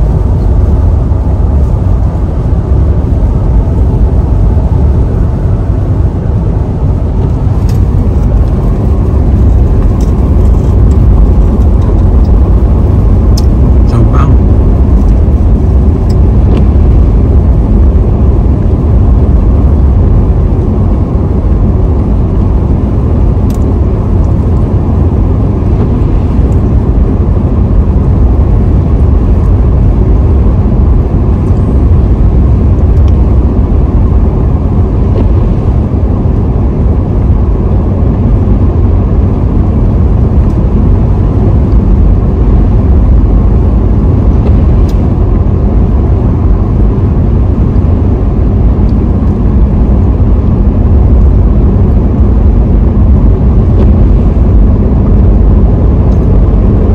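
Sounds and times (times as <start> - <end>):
car road noise: 0.0 - 56.9.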